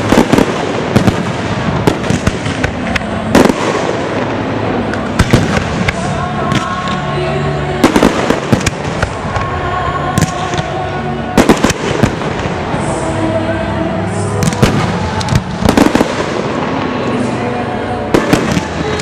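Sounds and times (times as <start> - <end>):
fireworks bangs and crackling: 0.0 - 7.1, 7.8 - 13.3, 14.0 - 19.0
background music: 0.0 - 19.0.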